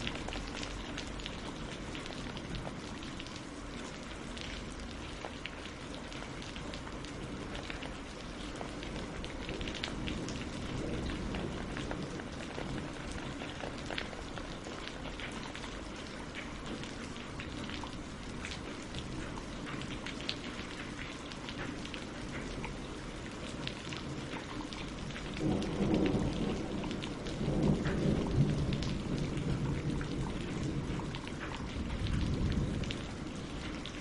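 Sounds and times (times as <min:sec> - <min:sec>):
rain on leaves and lake: 0:00.0 - 0:34.0.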